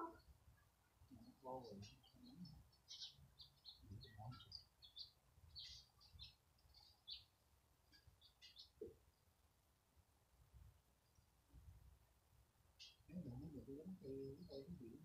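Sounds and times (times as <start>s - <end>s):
faint songbird chirping: 0.0s - 15.0s.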